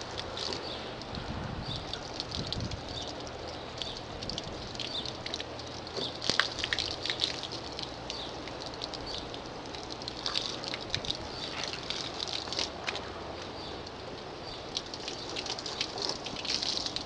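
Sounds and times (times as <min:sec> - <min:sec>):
hose water splashing on car: 0:00.0 - 0:17.0.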